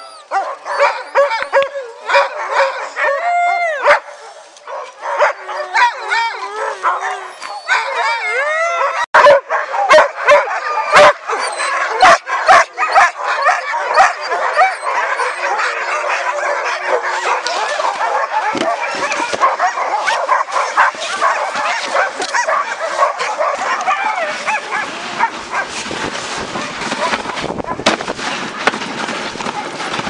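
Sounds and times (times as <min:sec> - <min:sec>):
sled dogs barking and yelping: 0:00.0 - 0:30.0.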